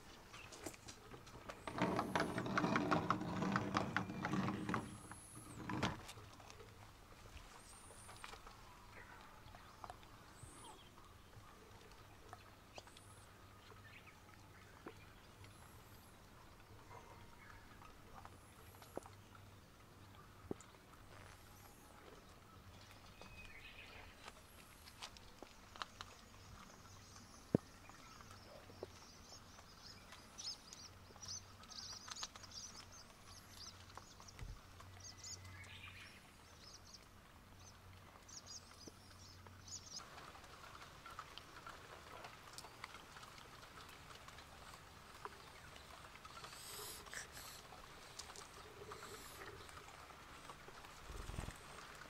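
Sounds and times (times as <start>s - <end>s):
small birds chirping: 7.6s - 40.0s, 40.7s - 52.0s.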